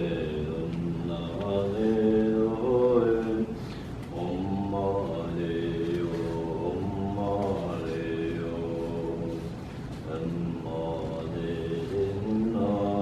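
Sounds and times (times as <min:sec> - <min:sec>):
slow liturgical chanting: 0:00.0 - 0:13.0.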